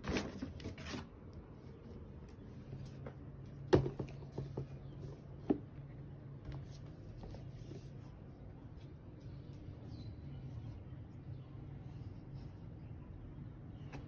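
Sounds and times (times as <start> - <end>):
steady low hum: 1.1 - 14.0.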